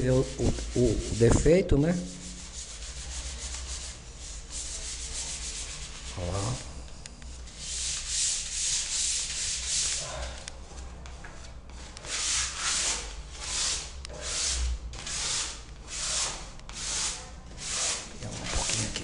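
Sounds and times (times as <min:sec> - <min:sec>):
sandpaper rubbing on wall: 0:00.0 - 0:06.6, 0:07.4 - 0:19.0.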